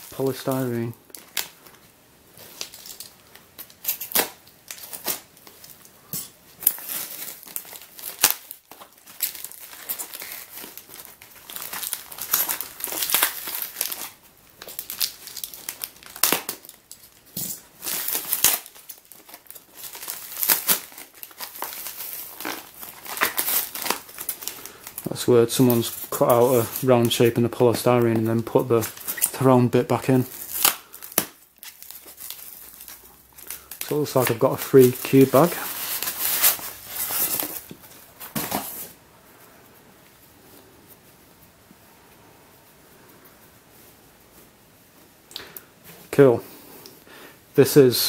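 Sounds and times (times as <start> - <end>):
plastic bag crinkling and tearing: 0.0 - 39.0.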